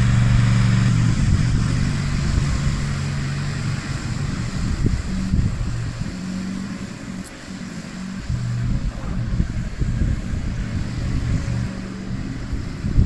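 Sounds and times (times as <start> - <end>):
riding mower engine running: 0.0 - 13.0.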